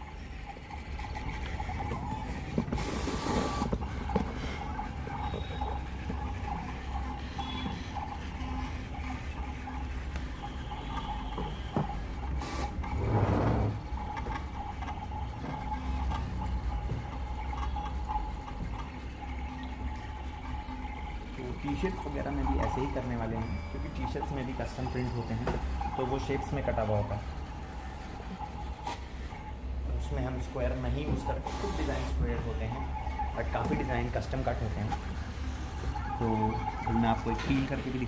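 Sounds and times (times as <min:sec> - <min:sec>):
cutting plotter motors whirring: 0:00.0 - 0:38.0.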